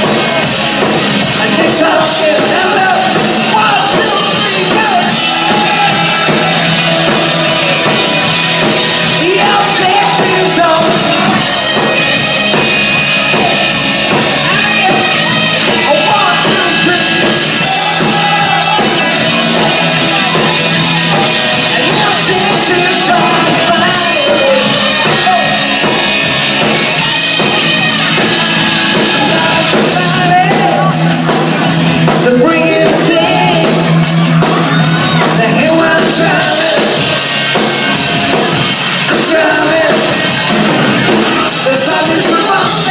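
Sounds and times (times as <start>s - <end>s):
drum kit: 0.0s - 42.9s
electric guitars: 0.0s - 42.9s
person singing: 1.2s - 31.5s, 32.1s - 42.9s.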